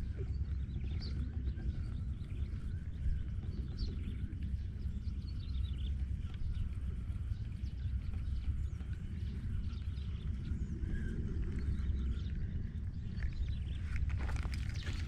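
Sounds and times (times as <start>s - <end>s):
low rumble on microphone: 0.0s - 15.0s.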